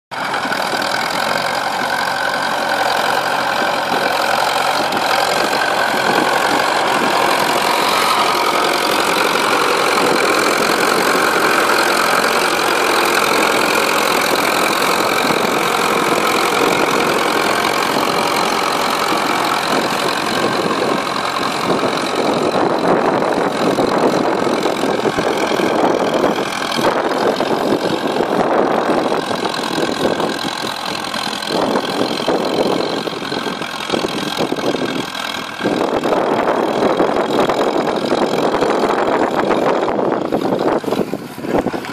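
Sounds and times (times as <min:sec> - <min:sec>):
tractor engine running under load: 0:00.1 - 0:41.9.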